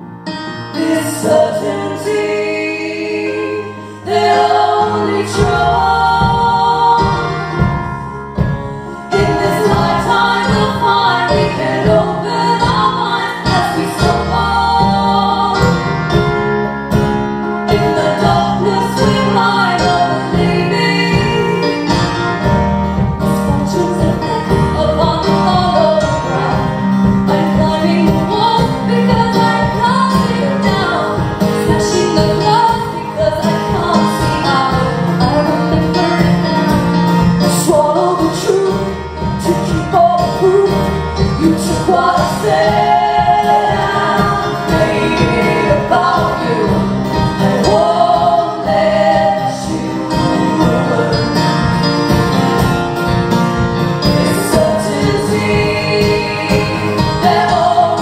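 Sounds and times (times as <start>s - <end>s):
instrumental accompaniment: 0.0s - 58.0s
women singing: 0.7s - 7.9s, 9.1s - 16.3s, 17.7s - 22.2s, 23.2s - 51.9s, 54.0s - 58.0s.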